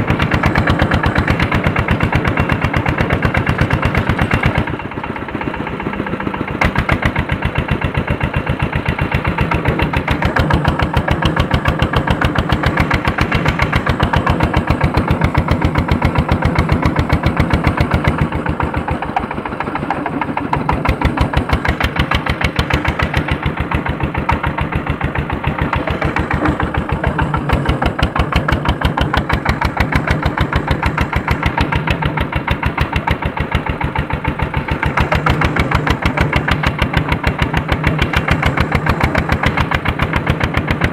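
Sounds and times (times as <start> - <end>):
tractor diesel engine chugging: 0.0 - 40.9.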